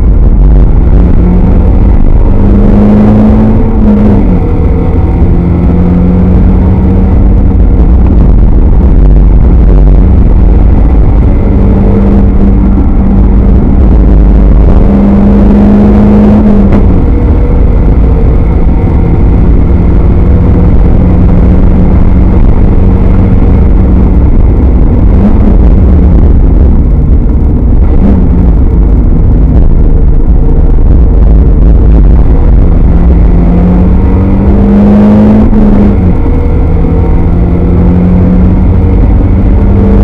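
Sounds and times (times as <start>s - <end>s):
car engine running hard: 0.0s - 40.0s.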